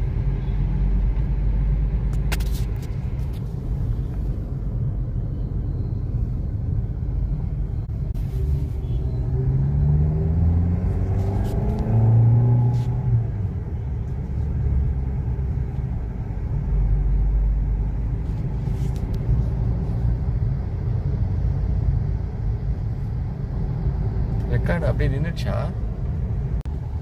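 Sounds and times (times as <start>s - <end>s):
car engine drone: 0.0s - 27.0s
road rumble: 0.0s - 27.0s.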